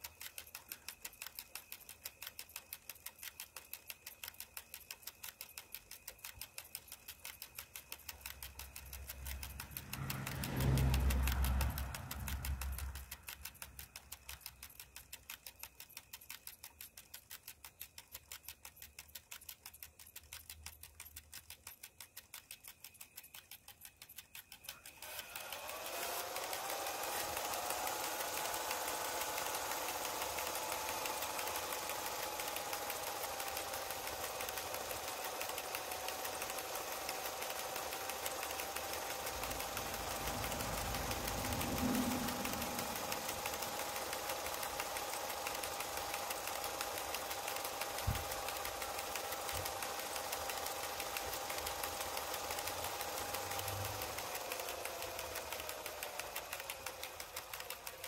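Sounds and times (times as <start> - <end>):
motor ticking and whining: 0.0 - 58.0.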